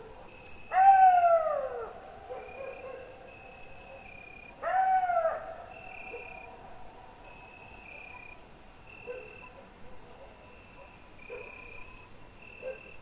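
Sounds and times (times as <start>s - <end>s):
insects chirping: 0.0s - 4.6s, 5.2s - 6.6s, 7.2s - 9.6s, 10.4s - 13.0s.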